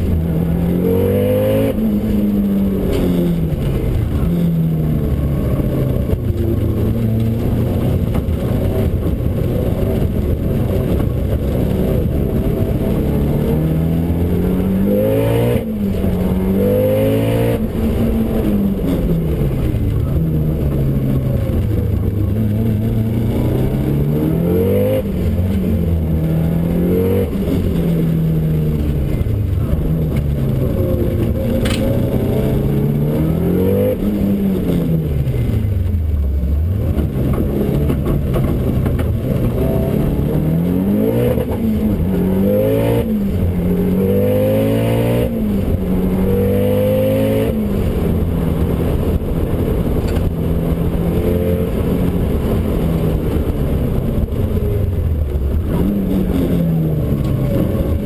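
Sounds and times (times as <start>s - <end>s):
car engine revving under acceleration: 0.0s - 58.0s.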